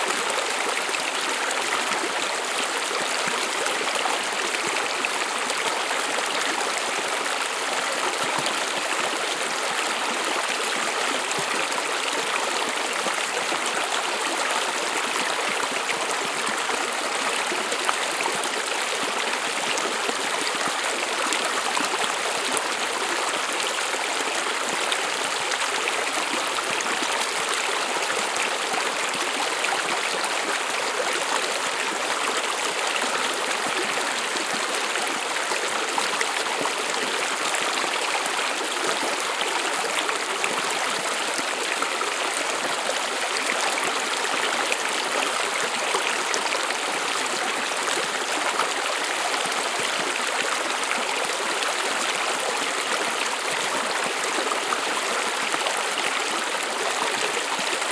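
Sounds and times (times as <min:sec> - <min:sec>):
stream babbling: 0:00.0 - 0:57.9.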